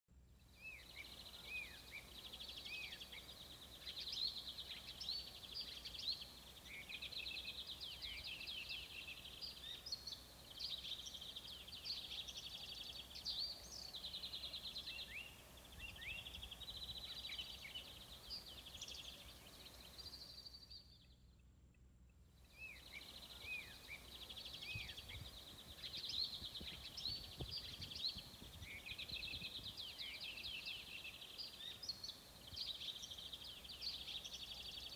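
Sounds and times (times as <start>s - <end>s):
songbirds singing and chirping: 0.2s - 34.9s.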